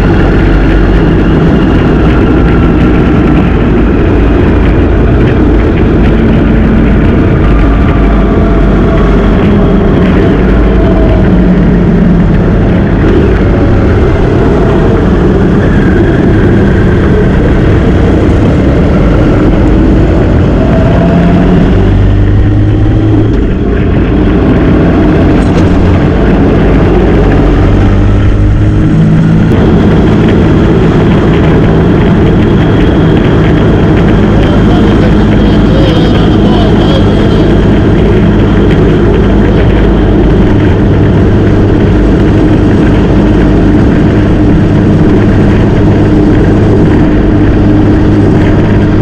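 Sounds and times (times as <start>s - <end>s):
motorcycle engine running: 0.0s - 49.0s
wind rush on microphone: 0.0s - 49.0s.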